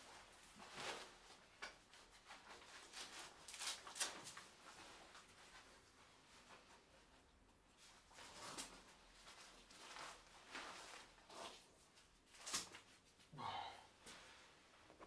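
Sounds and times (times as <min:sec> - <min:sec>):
rustles and scrapes of vest straps: 0:00.0 - 0:13.3.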